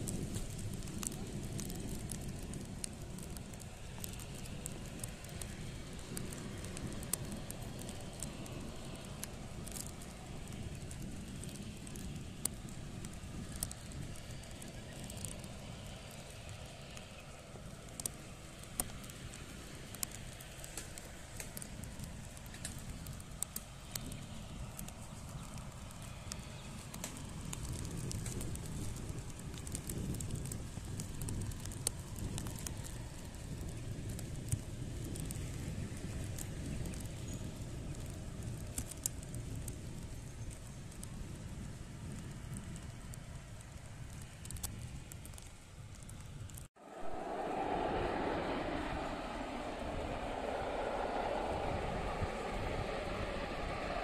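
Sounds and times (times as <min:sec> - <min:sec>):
sharp crackling clicks: 0:00.0 - 0:49.6
distant airliner rumble: 0:00.0 - 0:54.0.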